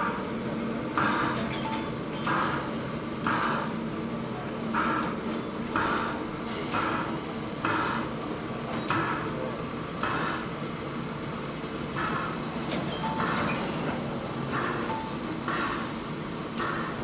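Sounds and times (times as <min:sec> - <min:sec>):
rhythmic steam hisses: 0:00.0 - 0:17.0.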